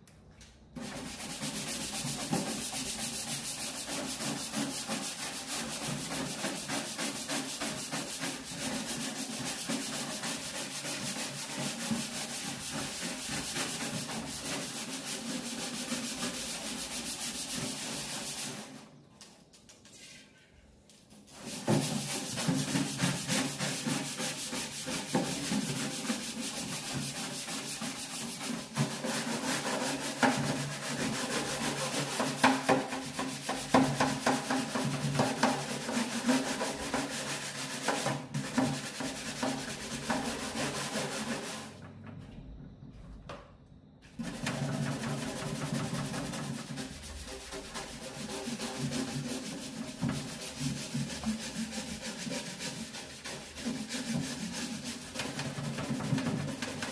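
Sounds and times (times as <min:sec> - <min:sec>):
rough rubbing on hard surface: 0:00.8 - 0:18.8, 0:21.3 - 0:41.8, 0:44.2 - 0:56.9.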